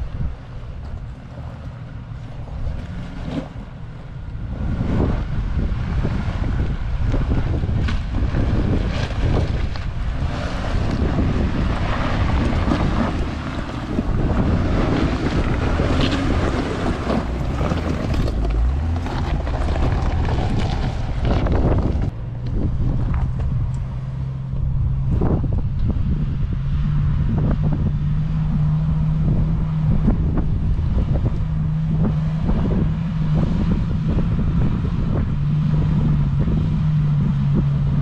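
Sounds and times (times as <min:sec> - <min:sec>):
vehicle engine rumble: 0:00.0 - 0:38.0
wind buffeting microphone: 0:00.0 - 0:38.0.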